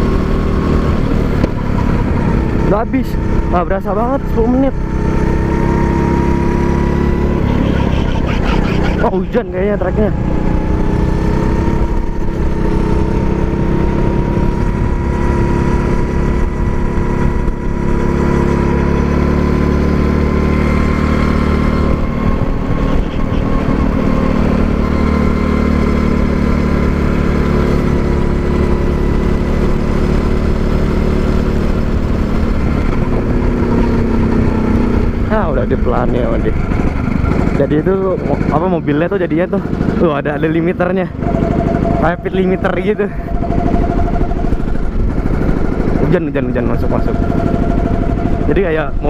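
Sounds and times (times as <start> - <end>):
go-kart engine running: 0.0 - 49.0.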